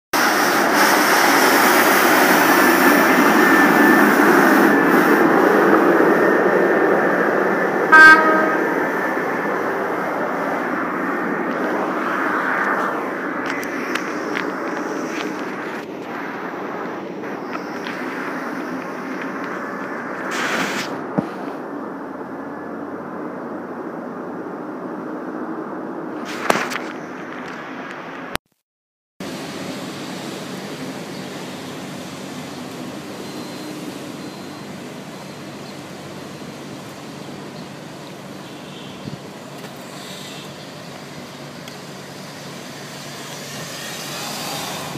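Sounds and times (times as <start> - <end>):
cars idling in traffic: 0.2 - 23.1, 29.2 - 44.9.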